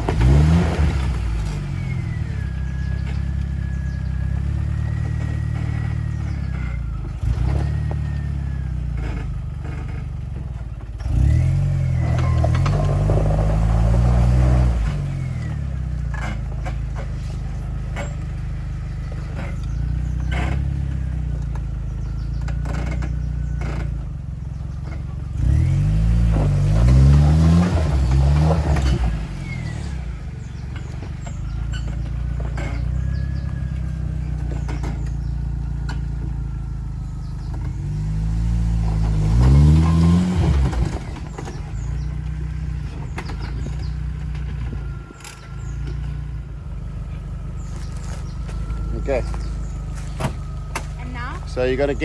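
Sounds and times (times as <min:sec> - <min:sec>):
engine revving at low speed: 0:00.0 - 0:52.0.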